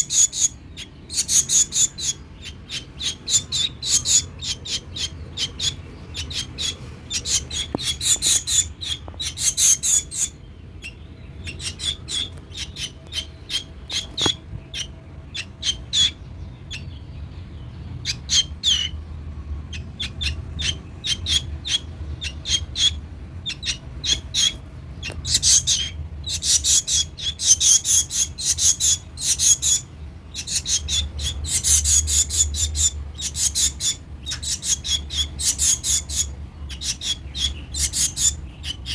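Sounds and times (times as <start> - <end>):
baby bird chirping: 0.0 - 38.9.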